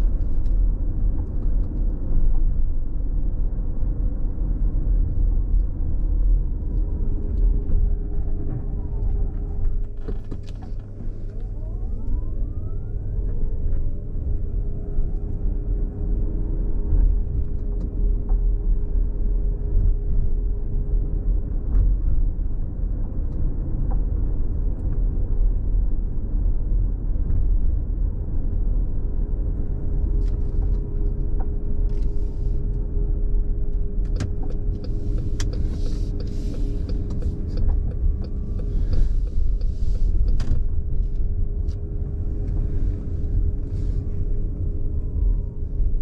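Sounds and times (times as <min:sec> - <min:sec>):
road and tyre rumble: 0:00.0 - 0:46.0.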